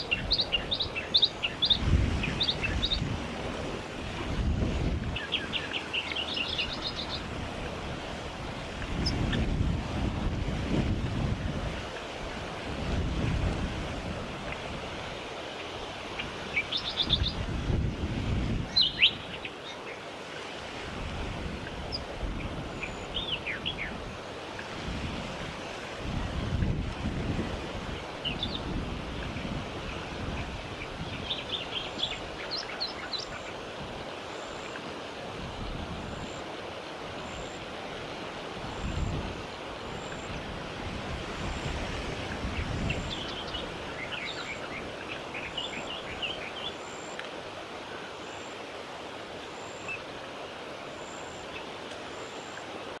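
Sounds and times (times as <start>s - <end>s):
wind noise on microphone: 0.0s - 19.5s, 20.6s - 34.2s, 35.2s - 46.7s.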